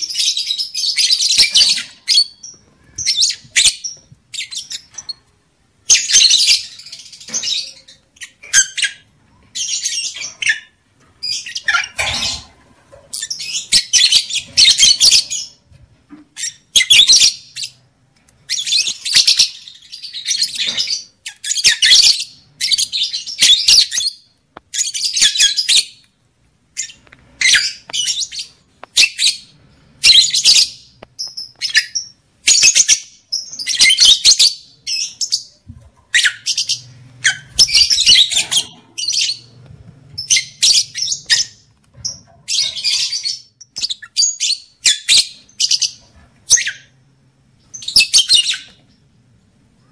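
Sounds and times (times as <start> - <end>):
lovebird chirping: 0.0 - 15.6, 16.3 - 17.8, 18.4 - 26.1, 26.7 - 47.0, 47.6 - 48.9.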